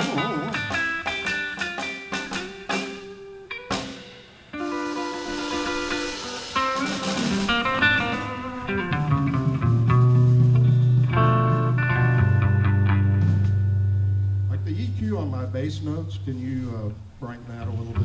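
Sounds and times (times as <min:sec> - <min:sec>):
blues guitar picking: 0:00.0 - 0:18.0
cymbal wash: 0:00.0 - 0:18.0
drums: 0:00.0 - 0:18.0.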